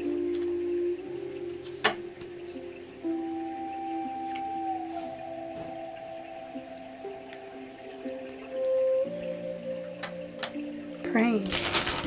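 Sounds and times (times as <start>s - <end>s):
sustained background music tones: 0.0s - 12.0s.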